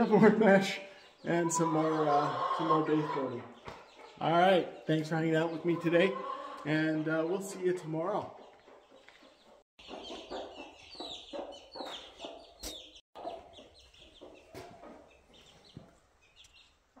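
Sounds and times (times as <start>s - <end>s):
hen clucking: 0.0s - 16.6s
chicks peeping: 0.0s - 17.0s.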